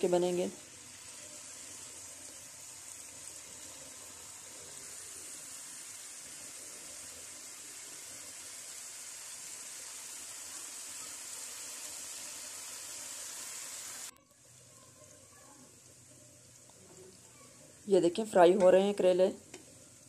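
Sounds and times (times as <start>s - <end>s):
vegetables frying in oil: 0.0s - 20.0s.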